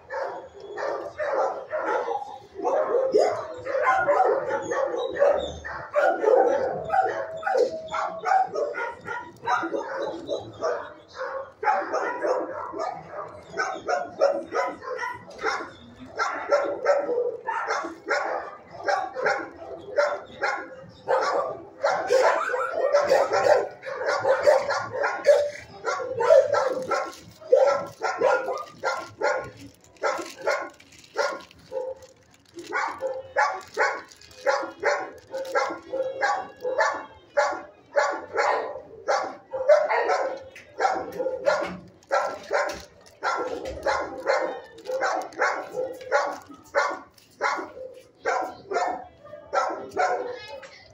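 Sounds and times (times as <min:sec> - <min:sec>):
many dogs barking: 0:00.0 - 0:50.7.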